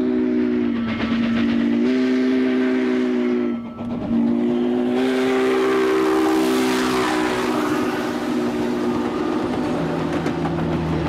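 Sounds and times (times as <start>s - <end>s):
steam locomotive chime whistle: 0.0s - 10.6s
rumble of passing train: 0.0s - 11.0s.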